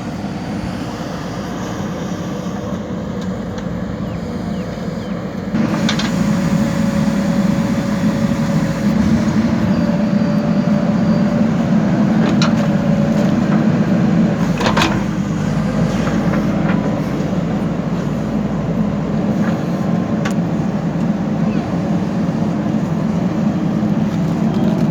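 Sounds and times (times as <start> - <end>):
diesel engine under load: 0.0 - 24.9.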